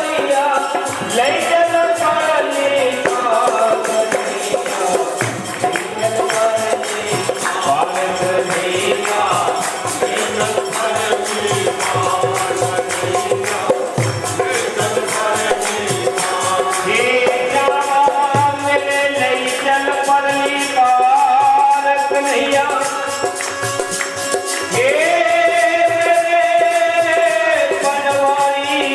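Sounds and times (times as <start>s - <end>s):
devotional music held notes: 0.0s - 28.9s
jingling percussion beat: 0.0s - 28.9s.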